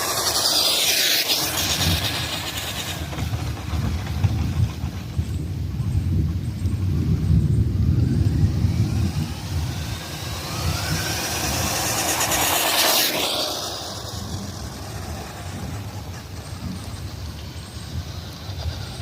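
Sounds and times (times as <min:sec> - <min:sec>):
electric motor whining: 0:00.0 - 0:04.0, 0:06.9 - 0:19.0
toy truck rumbling over ground: 0:00.0 - 0:19.0.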